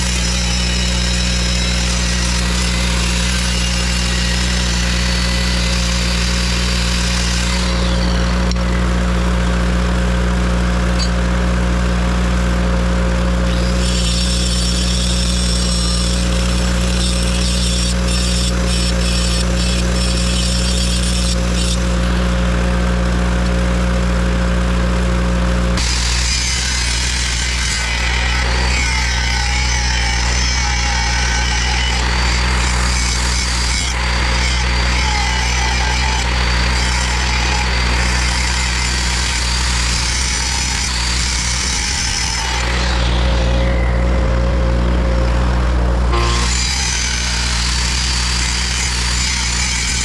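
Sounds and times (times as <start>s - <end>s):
electric grinder sharpening steel: 0.0s - 9.0s, 13.4s - 22.4s, 25.8s - 50.0s
generator engine running: 0.0s - 13.8s, 21.8s - 50.0s.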